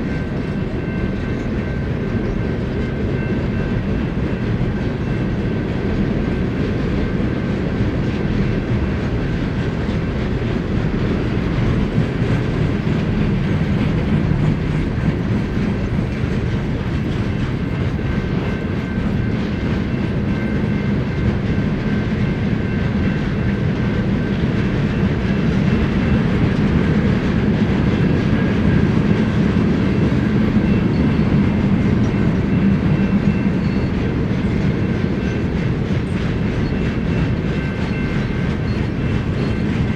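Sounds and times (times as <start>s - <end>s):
freight train wheels rumbling: 0.0s - 39.9s
rhythmic clatter over rail joints: 0.0s - 39.9s.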